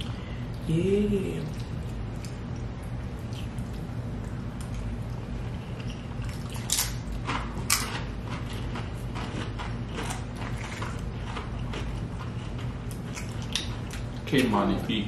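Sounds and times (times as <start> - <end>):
low steady hum: 0.0 - 15.0
eating clicks and crunches: 1.4 - 14.6.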